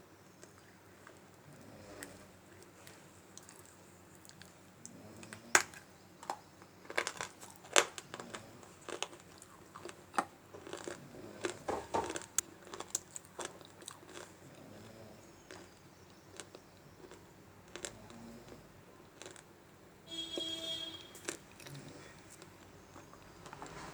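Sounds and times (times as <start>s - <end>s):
person chewing clay with crunches: 0.3s - 19.6s, 21.1s - 23.9s.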